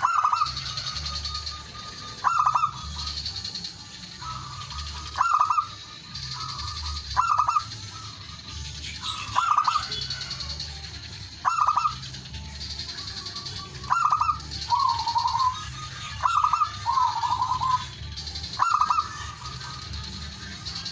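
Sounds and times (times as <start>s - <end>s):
dove cooing: 0.0s - 8.4s, 9.0s - 20.9s.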